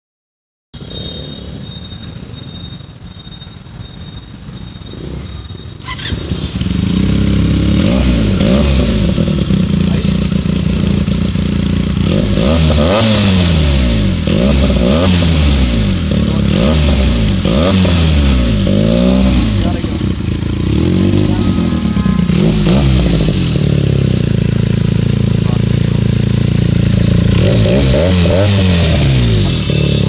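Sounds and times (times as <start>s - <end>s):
motorcycle engine revving: 0.8s - 30.0s.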